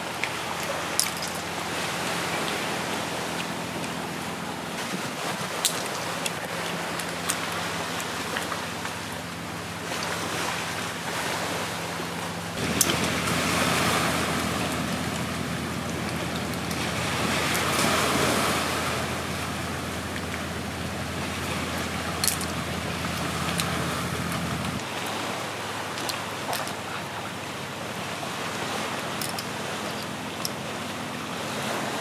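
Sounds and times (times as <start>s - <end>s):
waves washing against rocks: 0.0s - 32.0s.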